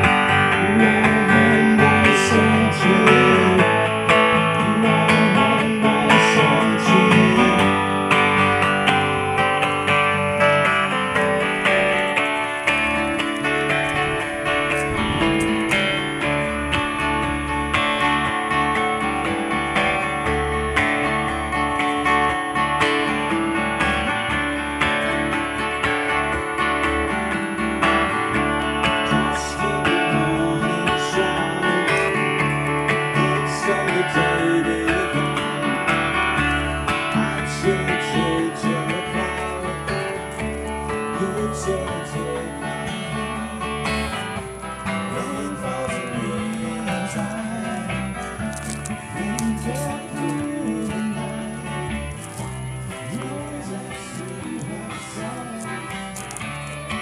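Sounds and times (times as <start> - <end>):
acoustic guitars strumming: 0.0 - 57.0.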